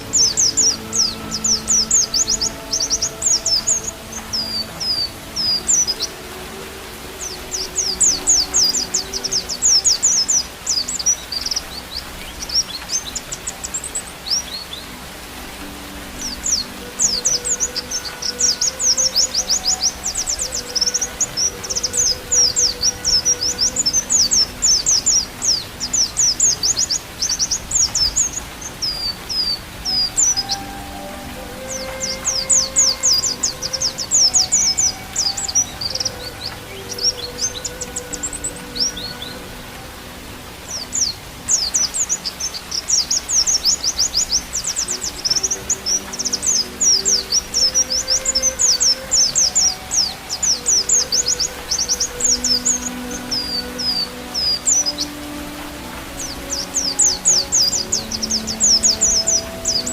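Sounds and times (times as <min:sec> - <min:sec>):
faint background music: 0:00.0 - 0:59.9
bird twittering: 0:07.2 - 0:59.9.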